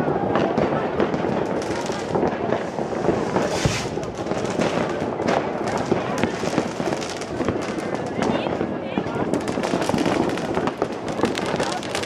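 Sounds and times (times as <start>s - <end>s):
fireworks and firecrackers banging: 0.0s - 12.0s.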